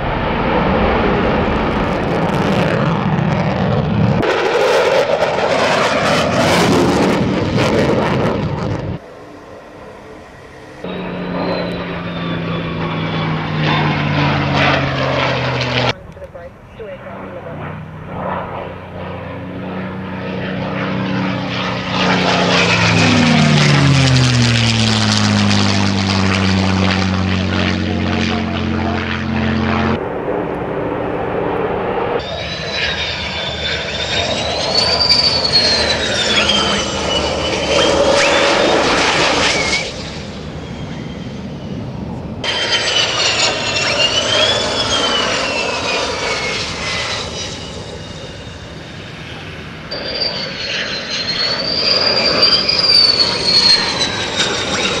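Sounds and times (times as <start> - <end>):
jet engine whine: 0.0 - 55.0
propeller airplane passing: 0.0 - 55.0.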